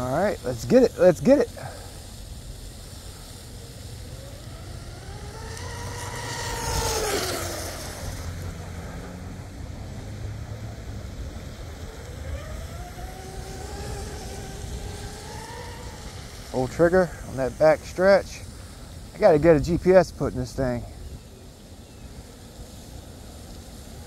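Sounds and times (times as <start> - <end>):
model boat motor whine: 0.0 - 24.0
spray hissing: 0.0 - 24.0.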